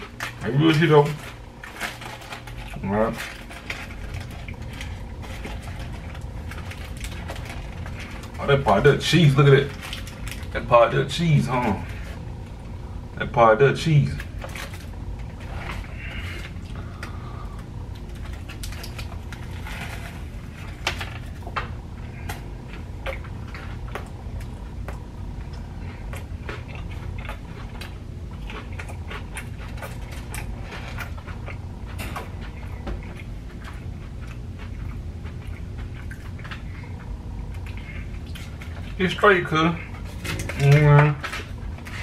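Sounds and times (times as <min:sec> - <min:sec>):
crunchy chewing: 0:00.0 - 0:10.7, 0:13.9 - 0:42.0
steady low hum: 0:00.0 - 0:42.0.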